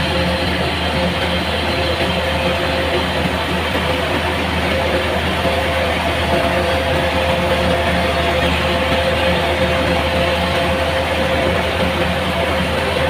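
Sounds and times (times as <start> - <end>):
harvester engine running: 0.0 - 13.0.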